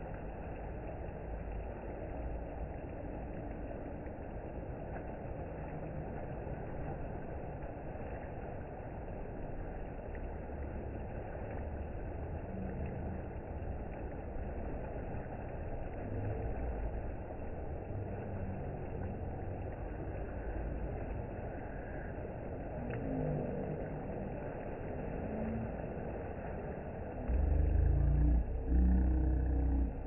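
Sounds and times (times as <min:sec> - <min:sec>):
water rushing from slide tube: 0:00.0 - 0:30.0
water splashing into pool: 0:00.0 - 0:30.0.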